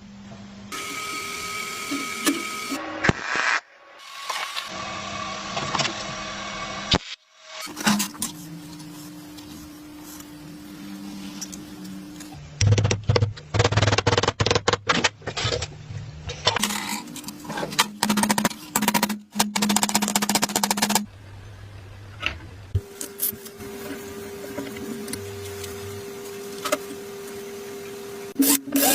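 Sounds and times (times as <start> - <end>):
steady workshop hum: 0.0 - 28.9.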